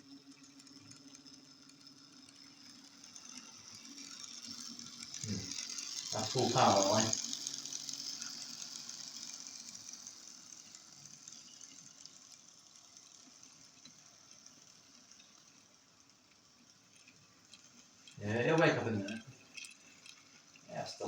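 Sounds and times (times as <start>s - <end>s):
model train motor whirring: 0.0s - 21.0s
wheels running on track: 0.0s - 21.0s.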